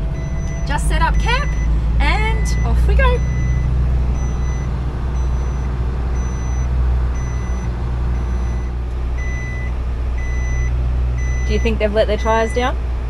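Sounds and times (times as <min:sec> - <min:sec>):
electronic warning beeps: 0:00.0 - 0:12.7
diesel engine running: 0:00.0 - 0:13.0.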